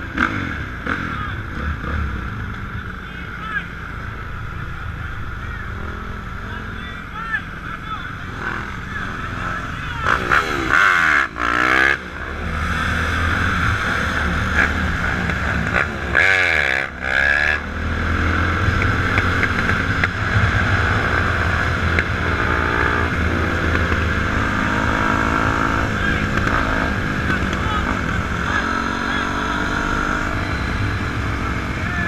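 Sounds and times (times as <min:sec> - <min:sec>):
dirt bike engine revving: 0:00.0 - 0:32.0
dirt bike engines idling: 0:00.0 - 0:32.0.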